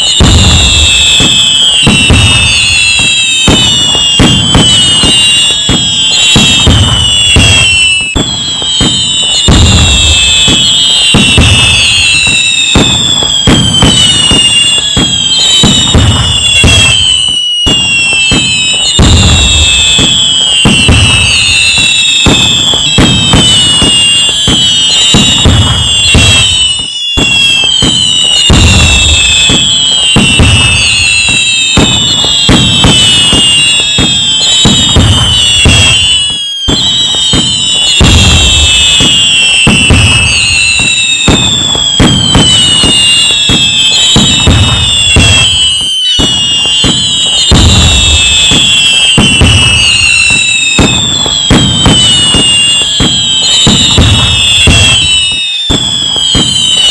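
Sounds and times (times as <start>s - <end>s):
fireworks booms: 0.0s - 56.9s
fireworks crackling bursts: 0.0s - 56.9s
fireworks whistles falling in pitch: 0.0s - 56.9s.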